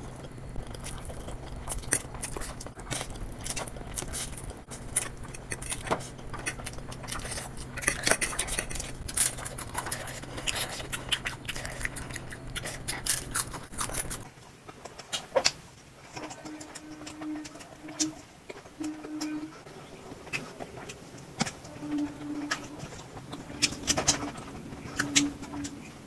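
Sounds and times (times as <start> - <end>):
person chewing food: 0.0 - 26.0
steady low hum: 0.0 - 26.0.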